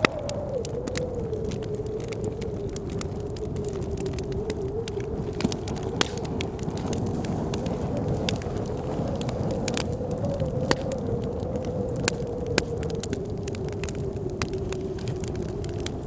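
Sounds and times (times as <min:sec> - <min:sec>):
blizzard wind whistling: 0:00.0 - 0:16.0
wood fire crackling and popping: 0:00.0 - 0:16.0.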